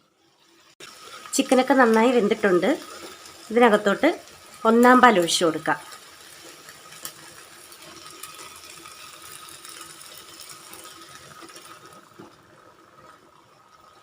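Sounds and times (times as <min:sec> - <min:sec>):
curry sizzling in a pan: 0:00.0 - 0:14.0.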